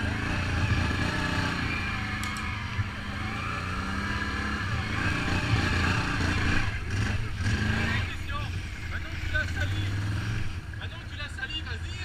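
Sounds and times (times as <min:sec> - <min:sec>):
atv engine running at low revs: 0:00.0 - 0:12.0.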